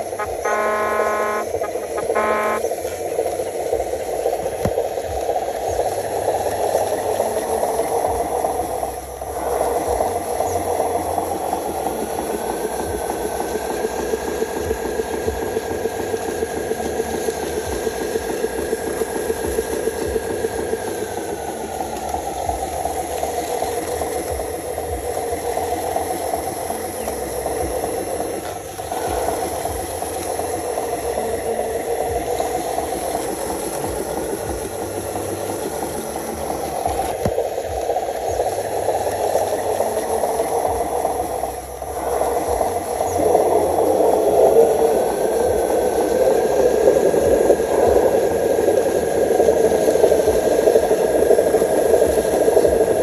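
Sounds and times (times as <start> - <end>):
faint motor whine: 0.0 - 53.0.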